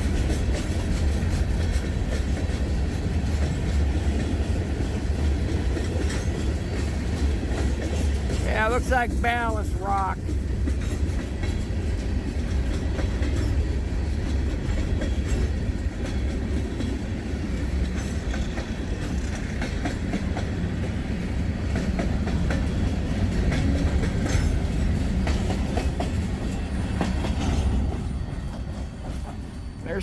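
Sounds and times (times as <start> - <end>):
wheels clacking over rail joints: 0.0 - 9.6, 10.2 - 29.5
freight train rumbling past: 0.0 - 30.0.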